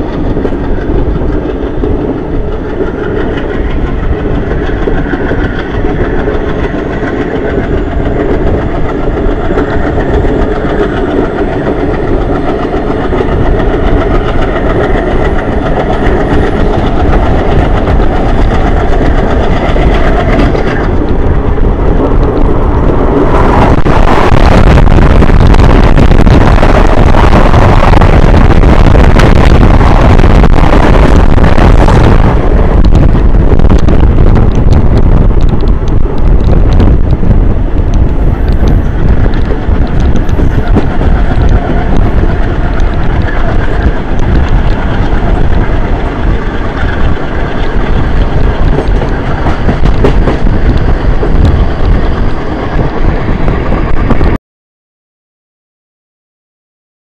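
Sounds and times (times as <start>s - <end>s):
train wheels rumbling on rails: 0.0s - 54.4s
wind rushing over microphone: 0.0s - 54.4s.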